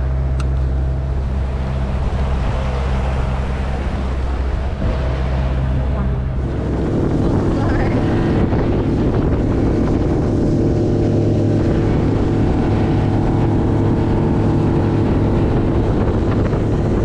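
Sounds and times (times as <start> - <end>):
motorboat engine drone: 0.0 - 17.0
water rushing past hull: 0.0 - 17.0.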